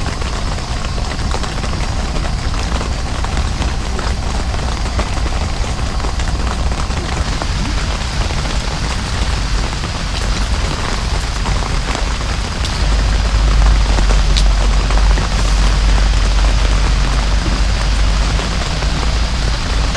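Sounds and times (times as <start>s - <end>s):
heavy rain pouring: 0.0s - 19.9s
low rumble: 0.0s - 19.9s.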